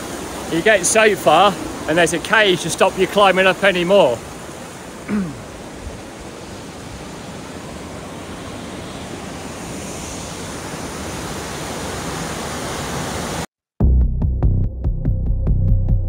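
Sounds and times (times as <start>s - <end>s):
waterfall roaring: 0.0s - 13.4s.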